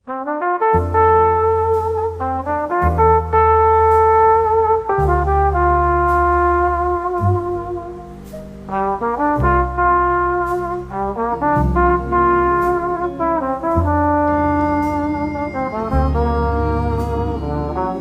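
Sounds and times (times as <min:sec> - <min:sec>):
bouncy brass music: 0:00.1 - 0:18.0.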